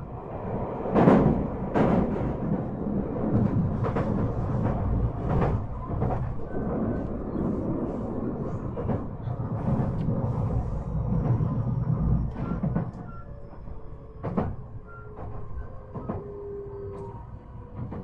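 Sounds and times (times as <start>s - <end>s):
train wheels clattering on rails: 0.8s - 18.0s.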